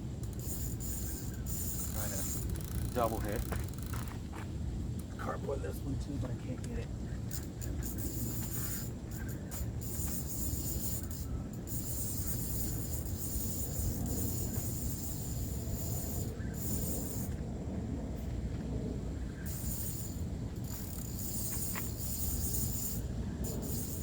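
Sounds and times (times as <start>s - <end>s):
high insect-like buzz: 0.0s - 4.4s, 7.3s - 17.5s, 19.1s - 24.0s
low outdoor rumble: 0.0s - 24.0s.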